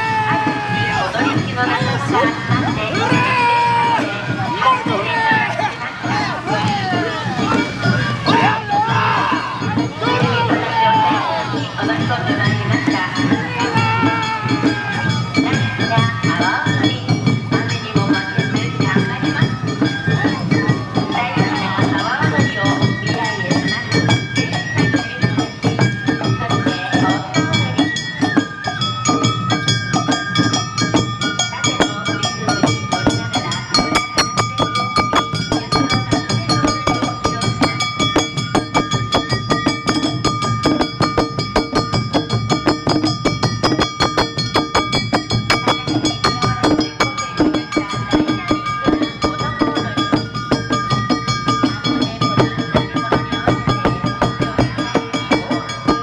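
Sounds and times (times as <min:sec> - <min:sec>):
bamboo flute melody: 0:00.0 - 0:56.0
taiko drums beating: 0:00.0 - 0:56.0.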